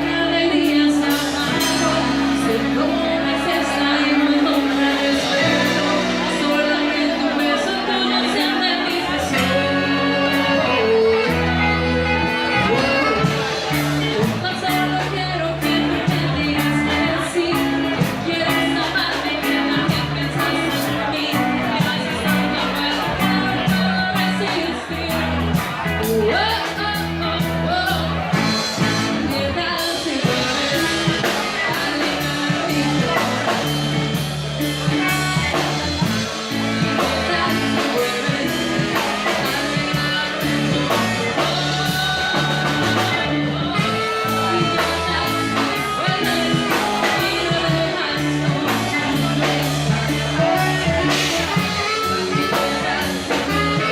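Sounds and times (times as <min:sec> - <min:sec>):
person singing: 0:00.0 - 0:53.9
rock band playing live: 0:00.0 - 0:53.9.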